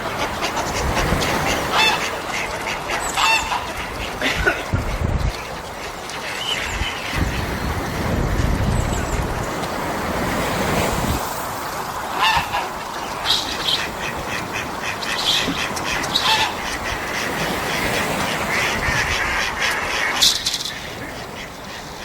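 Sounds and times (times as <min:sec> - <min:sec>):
waves washing on a beach: 0:00.0 - 0:22.0
wind buffeting microphone: 0:00.0 - 0:22.0.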